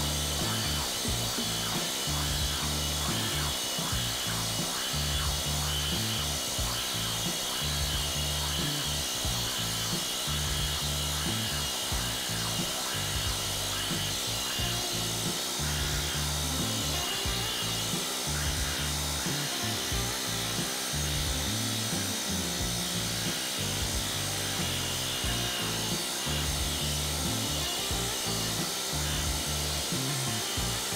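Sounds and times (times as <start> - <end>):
music with steady beat: 0.0 - 30.9.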